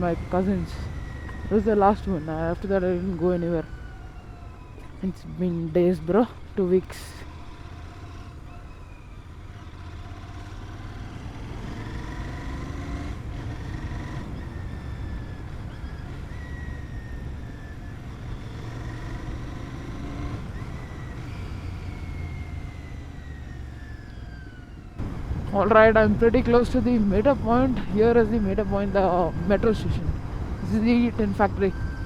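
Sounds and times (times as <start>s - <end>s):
motorcycle engine rumbling: 0.0s - 32.0s.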